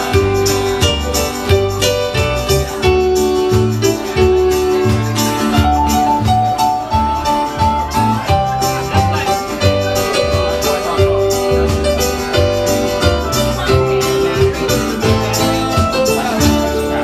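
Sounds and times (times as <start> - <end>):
bass beat: 0.0 - 17.0
guitar notes: 0.0 - 17.0
keyboard notes: 0.0 - 17.0.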